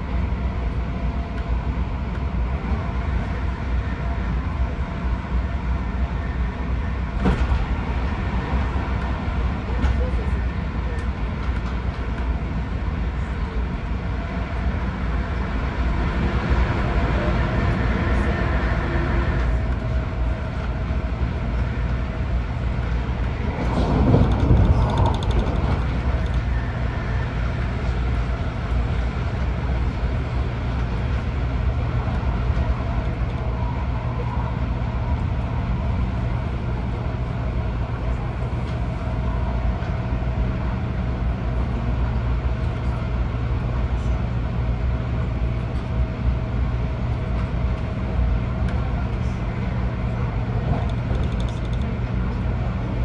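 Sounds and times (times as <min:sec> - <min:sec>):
train wheels and traction rumble: 0:00.0 - 0:53.0.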